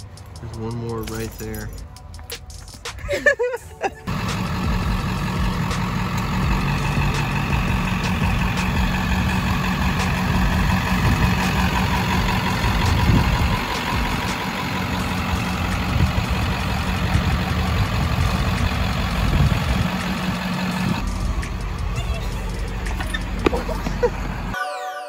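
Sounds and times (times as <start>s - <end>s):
truck engine idling: 0.0s - 24.6s.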